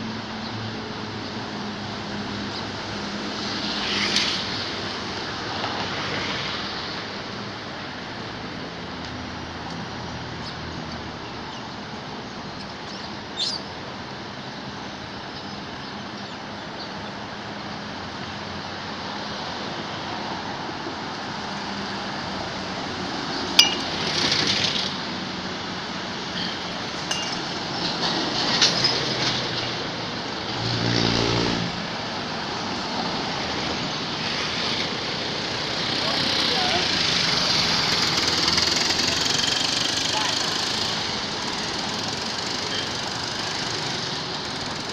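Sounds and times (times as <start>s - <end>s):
distant traffic: 0.0s - 44.9s.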